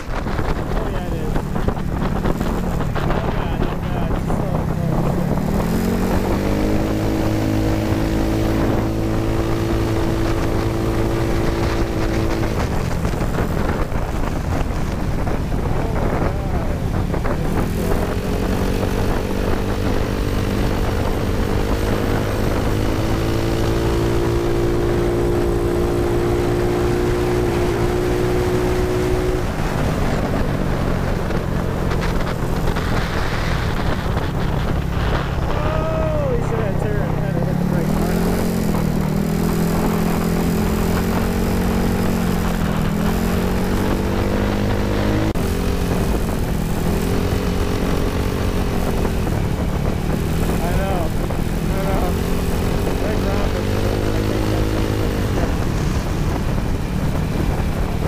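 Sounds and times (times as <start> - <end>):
scooter engine running: 0.0 - 58.0
wind on microphone: 0.0 - 58.0.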